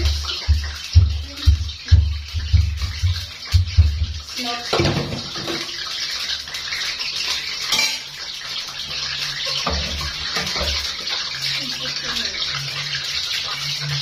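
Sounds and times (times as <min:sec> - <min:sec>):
steel pot clinking: 0:00.0 - 0:14.0.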